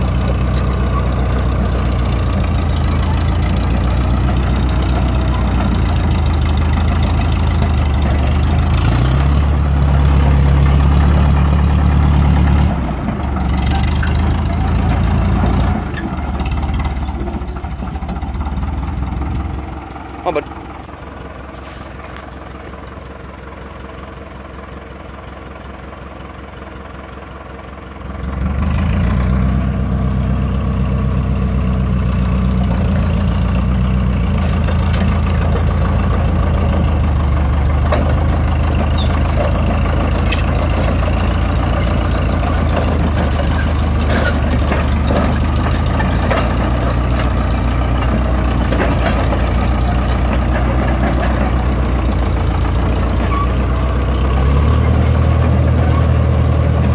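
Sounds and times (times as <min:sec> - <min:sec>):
diesel engine idling and revving: 0:00.0 - 0:56.9.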